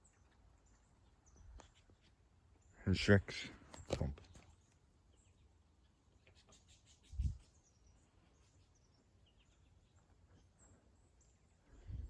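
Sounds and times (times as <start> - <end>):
faint bird chirping: 0.0 - 3.4, 4.1 - 12.0.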